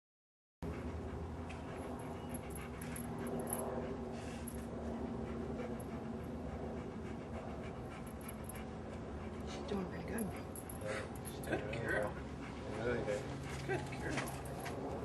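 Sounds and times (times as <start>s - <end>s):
dog panting: 0.6s - 15.0s
faint low hum: 0.7s - 15.0s.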